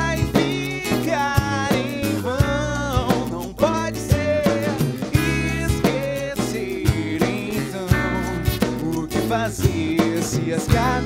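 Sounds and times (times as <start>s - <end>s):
drum kit: 0.0s - 11.0s
electric guitar: 0.0s - 11.0s
low bass notes: 0.0s - 11.0s
man singing: 0.0s - 11.0s.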